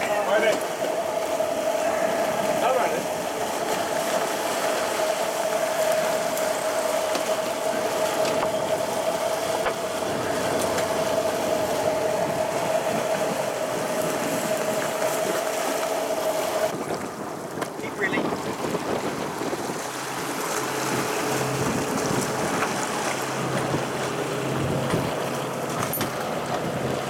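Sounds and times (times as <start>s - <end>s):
boat engine whine: 0.0s - 27.0s
water noise: 0.0s - 27.0s
wind: 0.0s - 27.0s.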